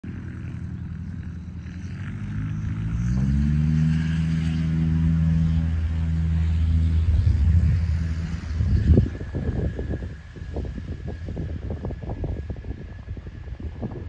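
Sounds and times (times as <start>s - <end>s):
tow plane engine at full power: 0.0s - 14.0s.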